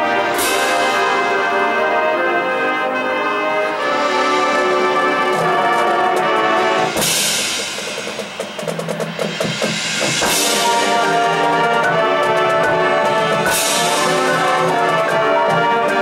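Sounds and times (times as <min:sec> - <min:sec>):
snare and bass drum strokes: 0:00.0 - 0:02.2, 0:03.8 - 0:16.0
cymbal crash: 0:00.0 - 0:02.5, 0:03.8 - 0:16.0
marching band brass chord: 0:00.0 - 0:16.0.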